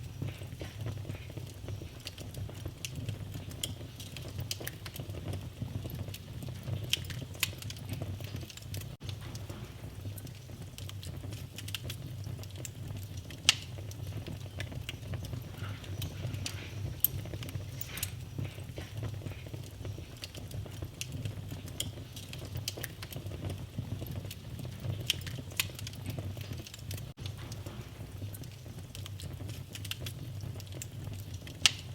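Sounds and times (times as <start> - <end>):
low rumble of flames: 0.0 - 31.9
wood fire crackling and popping: 0.0 - 31.9.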